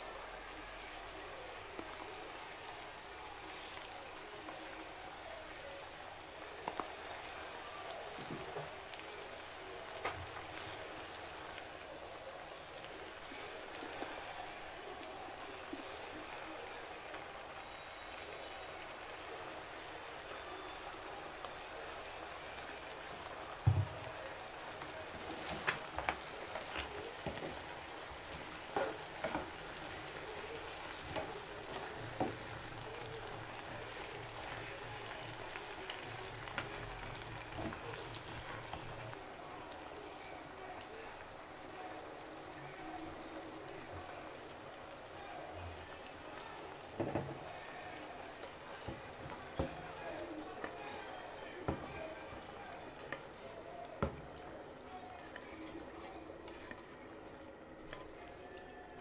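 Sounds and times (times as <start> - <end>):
meat frying in a pan: 0.0 - 59.0.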